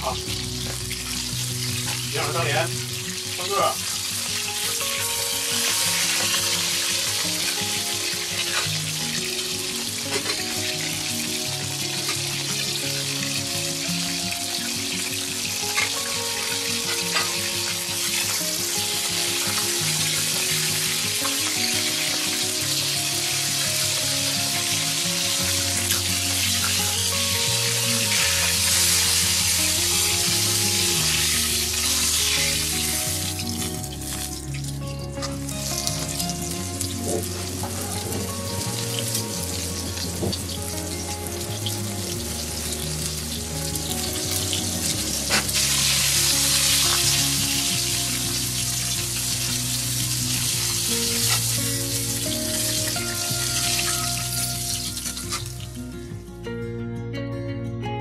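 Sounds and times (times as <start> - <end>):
fish sizzling in oil: 0.0 - 55.8
slow background tune: 0.0 - 58.0.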